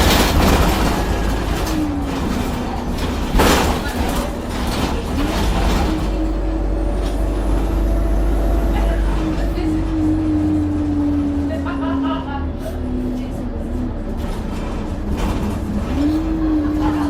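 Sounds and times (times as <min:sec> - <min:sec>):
diesel bus engine: 0:00.0 - 0:17.0.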